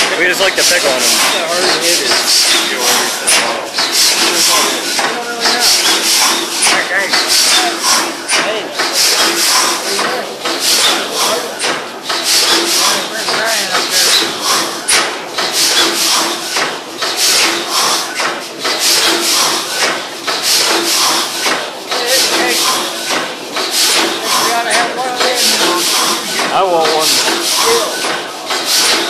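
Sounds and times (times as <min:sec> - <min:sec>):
engine chuffing and clattering: 0:00.0 - 0:29.0.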